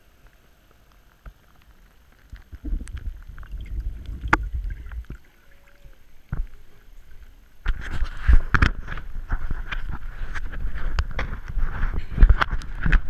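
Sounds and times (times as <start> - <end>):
muffled underwater rumble and slosh: 0.8 - 13.0.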